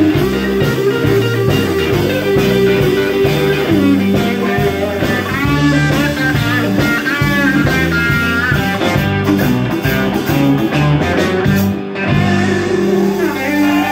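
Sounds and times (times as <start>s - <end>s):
bass and drums: 0.0s - 13.9s
electric guitar solo: 0.0s - 13.9s.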